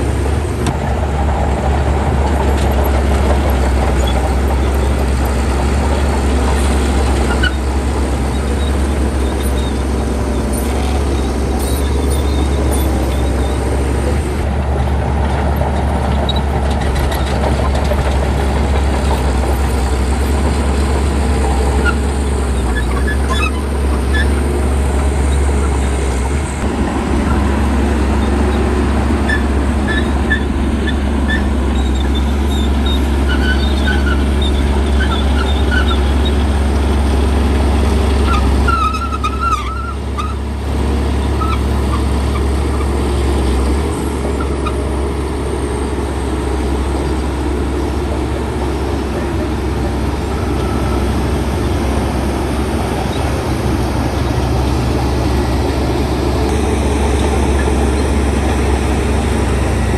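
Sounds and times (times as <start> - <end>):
heavy diesel machinery engine rumble: 0.0 - 59.9.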